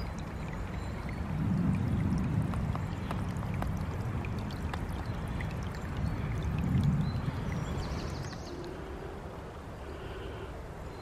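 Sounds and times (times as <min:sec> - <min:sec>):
small water splashes: 0:00.0 - 0:09.5
brook trickling over stones: 0:00.0 - 0:11.0.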